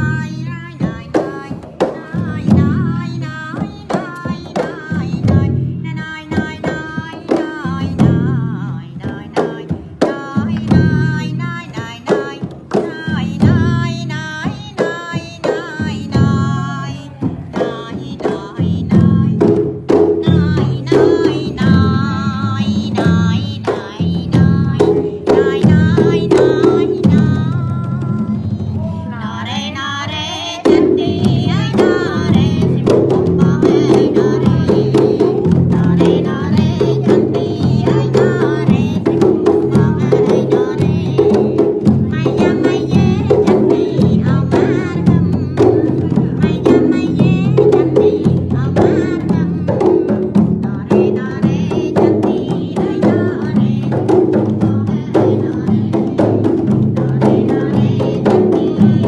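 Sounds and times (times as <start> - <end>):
frame drums beating: 0.0 - 29.8, 30.4 - 59.0
woman singing: 0.0 - 59.0.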